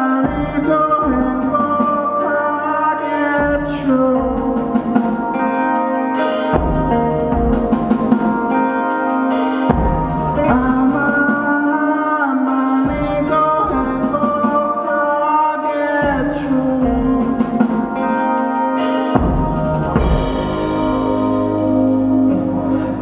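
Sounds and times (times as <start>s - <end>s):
electric guitar: 0.0s - 23.0s
live rock band playing: 0.0s - 23.0s.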